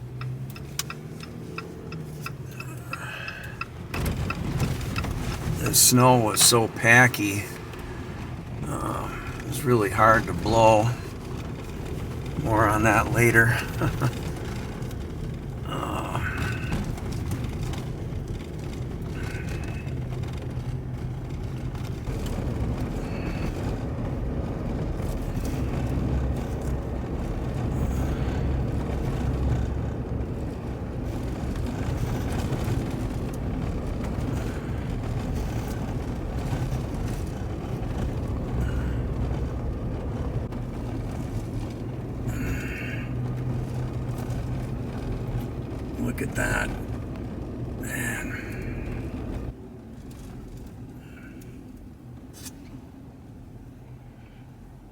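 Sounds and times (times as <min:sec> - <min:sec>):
car engine hum: 0:00.0 - 0:54.9.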